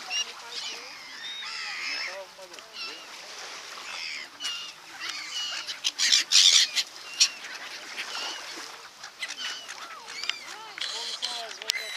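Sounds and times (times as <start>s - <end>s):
swans and gulls calling: 0.0s - 11.9s.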